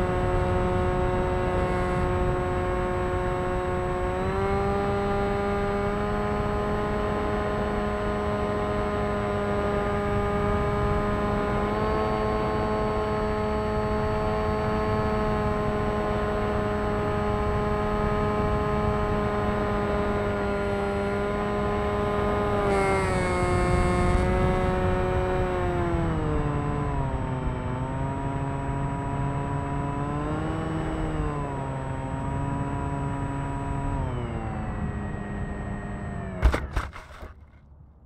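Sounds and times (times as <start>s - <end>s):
electric motor propeller whine: 0.0s - 37.5s.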